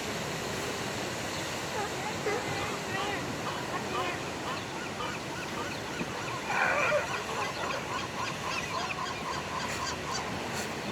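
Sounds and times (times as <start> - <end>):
surf washing: 0.0 - 10.9.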